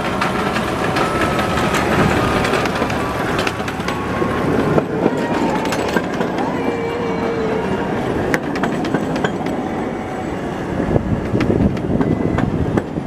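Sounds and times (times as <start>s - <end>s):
miniature railway wheels rumbling: 0.0s - 13.0s.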